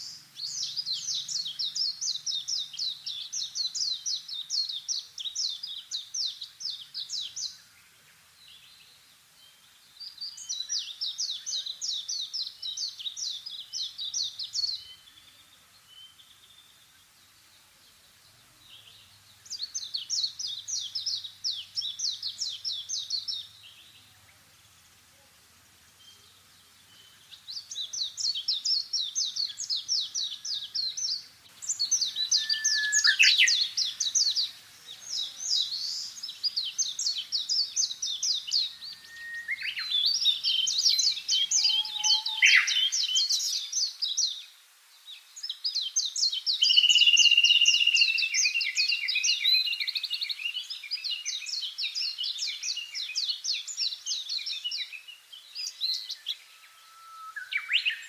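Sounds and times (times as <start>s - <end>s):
songbirds trilling: 0.0s - 58.0s.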